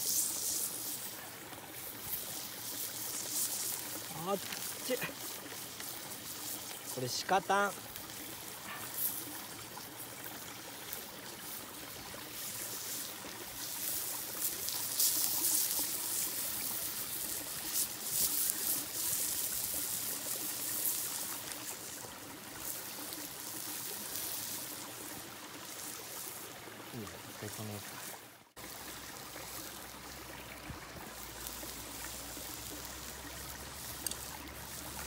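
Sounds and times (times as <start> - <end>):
meat sizzling on hot stone: 0.0 - 26.5, 28.5 - 35.0
stream rushing: 0.0 - 35.0
wood fire crackling: 0.0 - 35.0.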